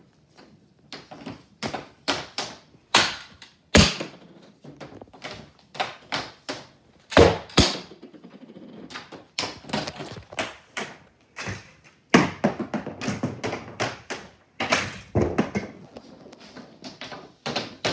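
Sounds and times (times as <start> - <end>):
hockey stick hitting pucks: 1.0 - 8.2, 8.9 - 15.8, 16.6 - 17.9.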